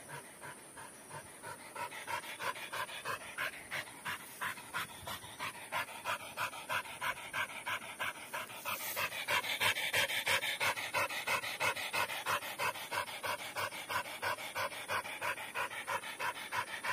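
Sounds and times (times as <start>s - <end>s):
dog panting: 0.0s - 16.9s.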